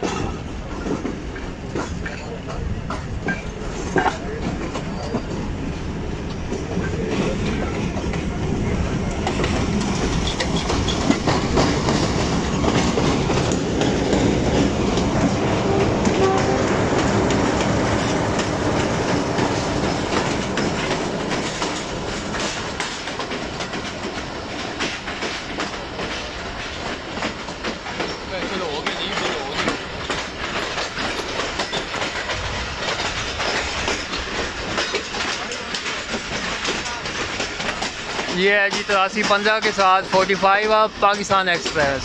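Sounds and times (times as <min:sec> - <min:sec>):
diesel locomotive running: 0:00.0 - 0:42.0
wheels clacking over rail joints: 0:00.0 - 0:42.0.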